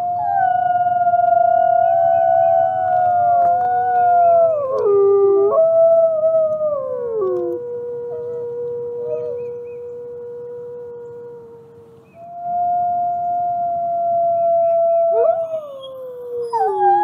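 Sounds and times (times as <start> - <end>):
wolves howling: 0.0 - 17.0.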